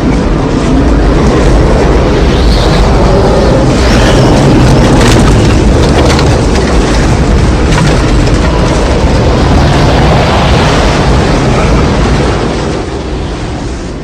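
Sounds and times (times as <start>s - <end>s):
tornado wind roaring: 0.0s - 14.0s
debris crashing: 1.0s - 12.3s.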